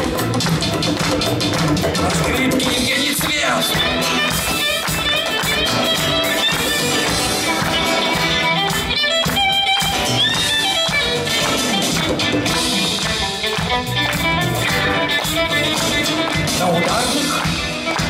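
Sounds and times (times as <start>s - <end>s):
guitar: 0.0s - 18.0s
live band playing: 0.0s - 18.0s.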